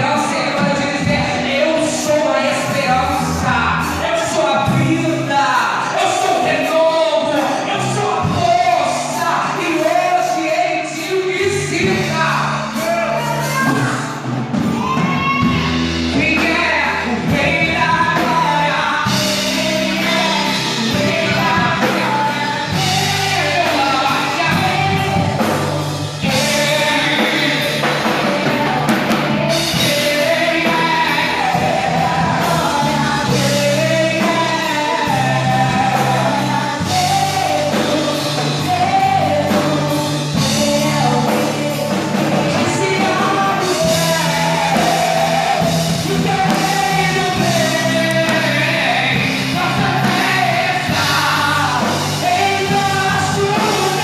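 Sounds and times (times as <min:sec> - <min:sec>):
person singing: 0:00.0 - 0:54.0
rock worship song from band: 0:00.0 - 0:54.0.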